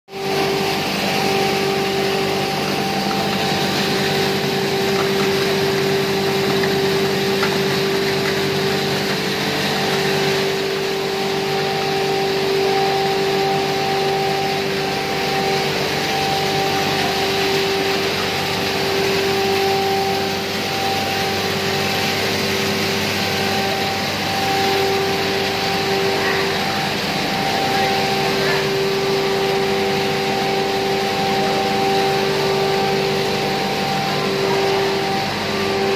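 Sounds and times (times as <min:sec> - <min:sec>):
grinding mill whirring: 0:00.1 - 0:35.9.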